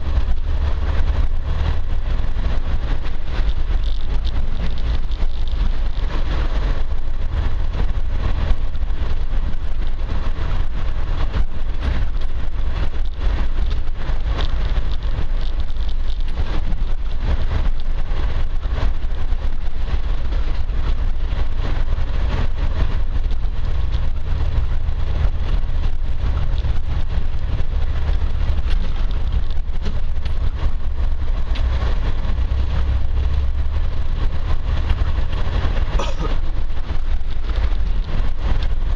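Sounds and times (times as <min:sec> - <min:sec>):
engine and drivetrain rumble: 0:00.0 - 0:38.9
tyre and road noise: 0:00.0 - 0:38.9.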